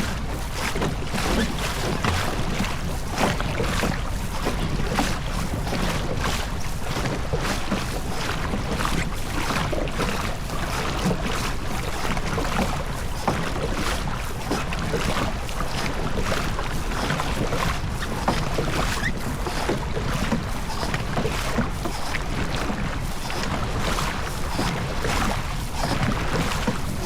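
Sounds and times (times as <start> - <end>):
boat engine rumble: 0.0 - 27.0
water splashing against hull: 0.0 - 27.0.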